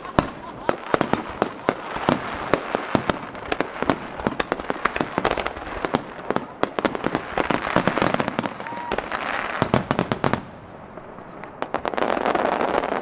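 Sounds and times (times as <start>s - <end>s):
fireworks hiss: 0.0s - 13.0s
fireworks launching and bursting: 0.0s - 13.0s.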